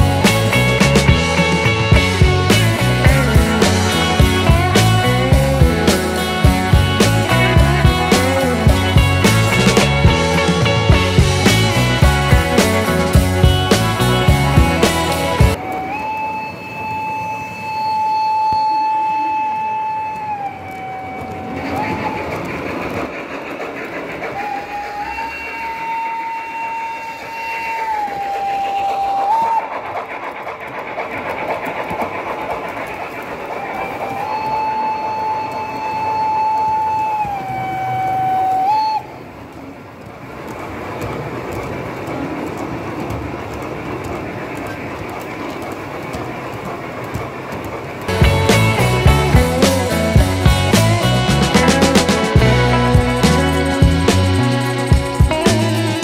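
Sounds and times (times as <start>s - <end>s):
model train motor whine: 0.0s - 56.0s
train wheels rolling: 0.0s - 56.0s.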